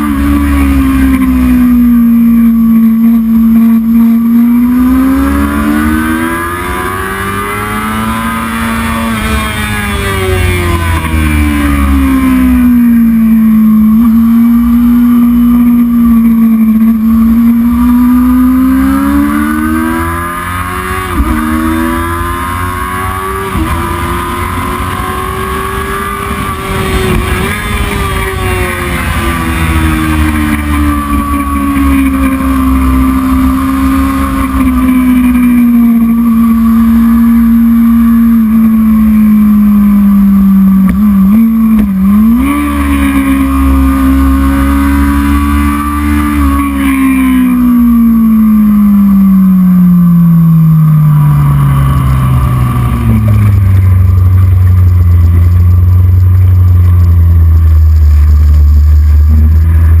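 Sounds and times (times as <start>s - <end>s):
racing motorcycle engine revving: 0.0s - 60.0s.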